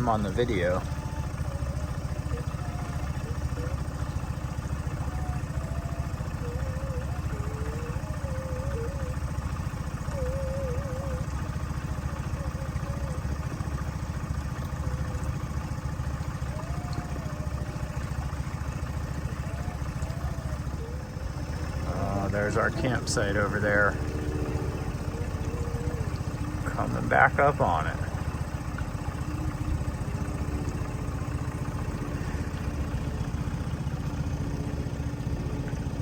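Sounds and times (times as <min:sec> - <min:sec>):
boat motor droning: 0:00.0 - 0:36.0.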